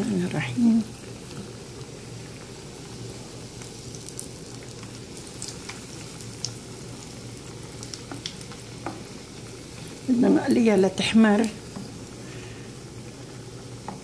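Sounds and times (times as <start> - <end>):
food frying in hot oil: 0.0 - 14.0.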